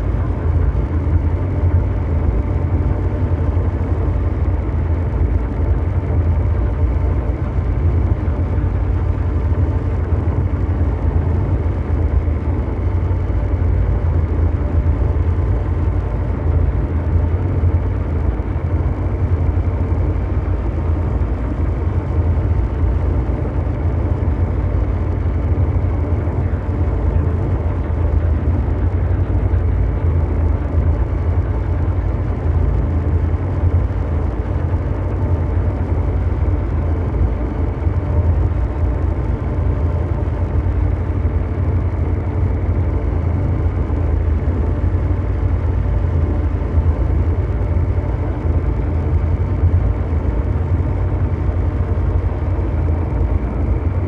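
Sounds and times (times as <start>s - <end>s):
deep mechanical rumble: 0.0s - 54.0s
faint steady hum tones: 0.0s - 54.0s.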